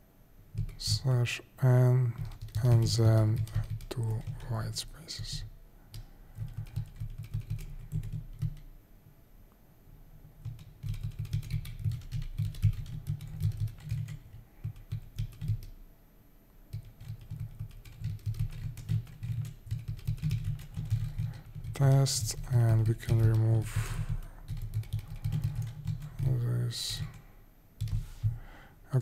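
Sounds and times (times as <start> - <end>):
computer keyboard typing: 0.5 - 1.1, 2.1 - 8.7, 10.4 - 15.8, 16.7 - 27.2, 27.8 - 28.0.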